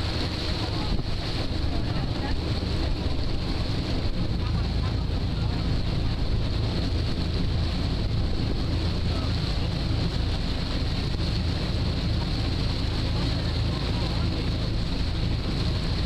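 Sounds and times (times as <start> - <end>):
ferry engine rumble: 0.0 - 16.0
propeller wake rushing: 0.0 - 16.0
wind buffeting microphone: 0.0 - 16.0.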